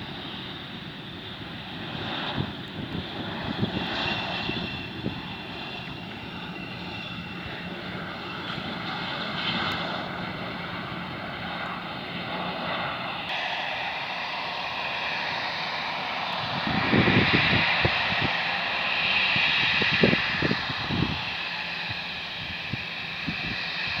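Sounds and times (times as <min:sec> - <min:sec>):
jet engines roaring and whining: 0:00.0 - 0:24.0
low gusty rumbles: 0:00.0 - 0:24.0.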